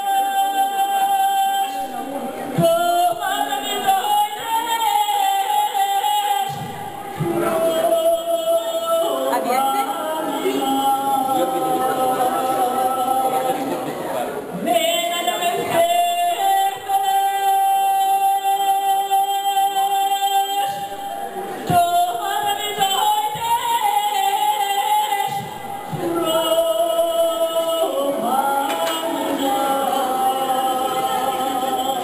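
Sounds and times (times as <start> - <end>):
woman singing into microphone: 0.0 - 32.0.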